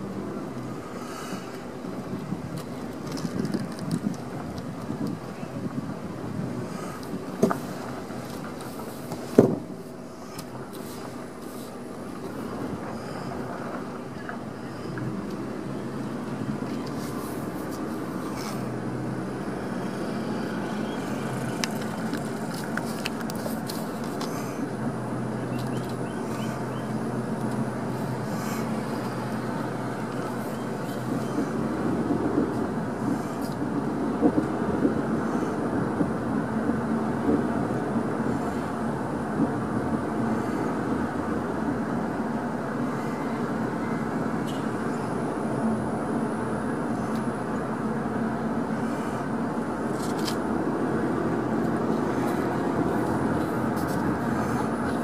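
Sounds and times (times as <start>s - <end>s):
car interior road noise: 0.0s - 55.0s.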